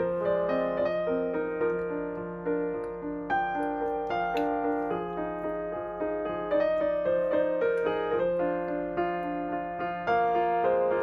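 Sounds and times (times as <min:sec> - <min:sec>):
calm piano melody: 0:00.0 - 0:11.0.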